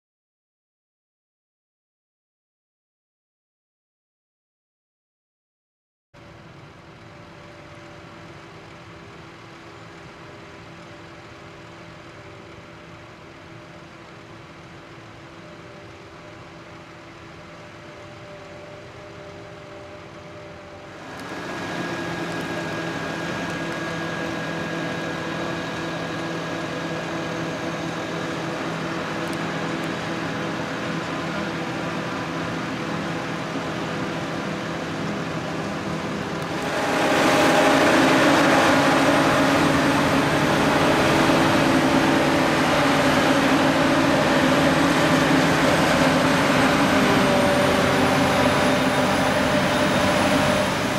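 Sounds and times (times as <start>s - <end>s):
tractor and forage harvester running: 6.2s - 50.9s.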